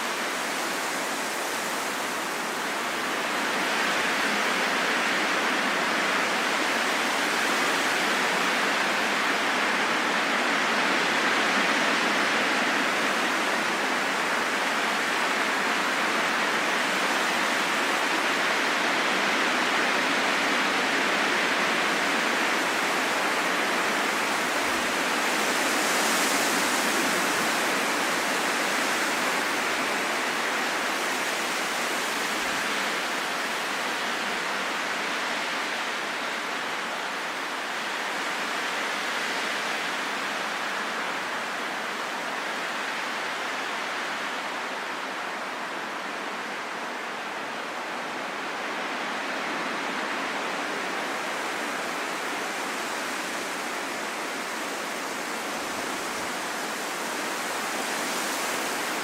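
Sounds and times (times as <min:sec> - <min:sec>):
rushing wind: 0:00.0 - 0:59.0.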